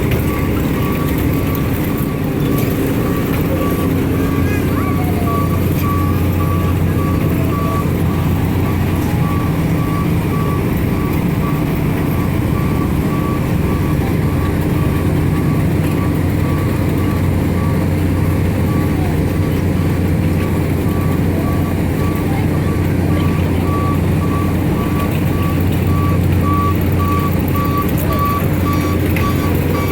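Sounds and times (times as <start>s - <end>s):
electronic beeps: 0.0s - 18.0s, 18.6s - 29.9s
ride mechanical hum: 0.0s - 29.9s.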